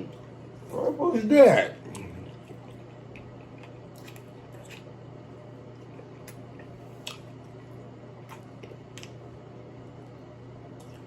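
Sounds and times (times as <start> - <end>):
low steady hum: 0.0 - 11.0
wet squishes of eating with hands: 1.7 - 11.0.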